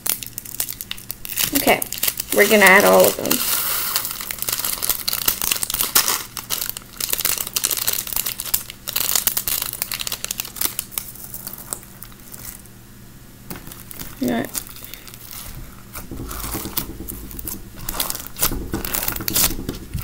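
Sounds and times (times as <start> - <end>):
plastic bag crinkling: 0.0 - 12.7, 13.5 - 20.0.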